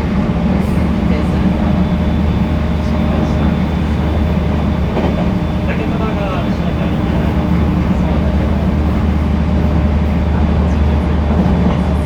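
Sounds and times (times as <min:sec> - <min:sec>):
train low hum: 0:00.0 - 0:12.0
wheels rumbling on rails: 0:00.0 - 0:12.0.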